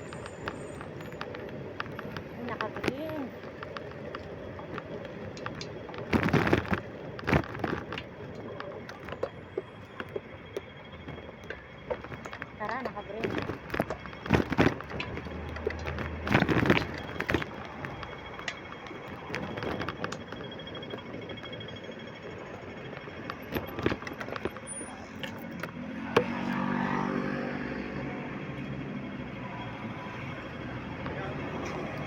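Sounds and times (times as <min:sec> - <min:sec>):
scattered clicks and knocks: 0:00.0 - 0:27.1
motor vehicle engine running: 0:00.0 - 0:32.0
street traffic noise: 0:00.0 - 0:32.0.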